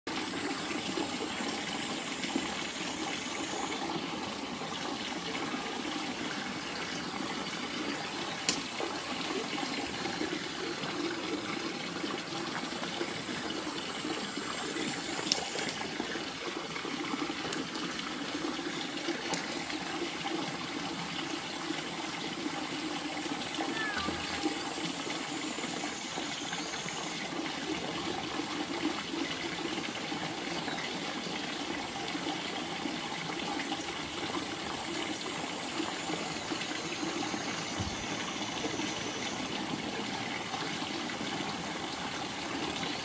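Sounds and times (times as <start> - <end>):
running water rushing: 0.1 - 43.0.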